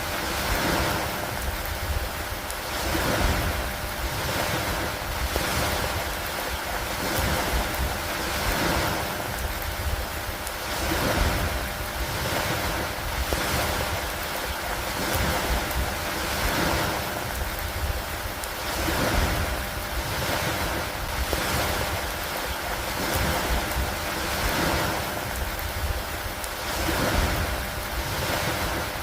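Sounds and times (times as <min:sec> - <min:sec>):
constant low rumble: 0:00.0 - 0:29.0
rain and wind over lake water: 0:00.0 - 0:29.0.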